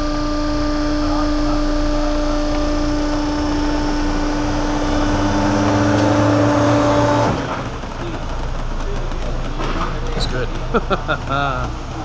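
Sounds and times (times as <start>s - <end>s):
baling press humming: 0.0s - 12.0s
deeper louder hum: 0.0s - 12.0s.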